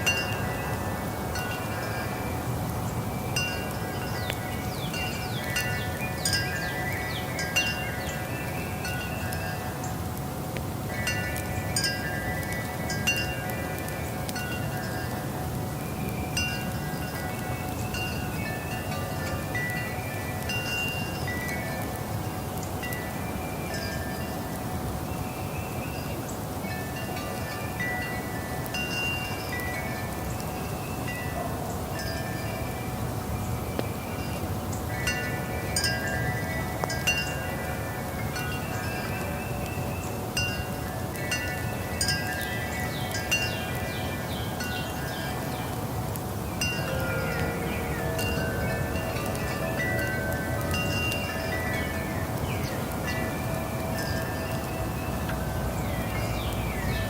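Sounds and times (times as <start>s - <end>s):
wind chimes ringing: 0.0s - 10.0s, 10.8s - 24.9s, 25.9s - 57.0s.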